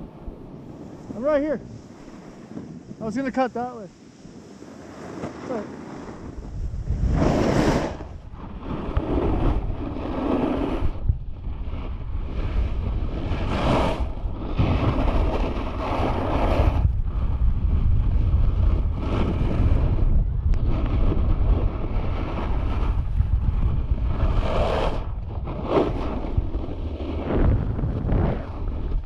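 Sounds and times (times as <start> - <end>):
wind buffeting microphone: 0.0 - 29.0
snowboard edge scraping snow: 0.6 - 29.0.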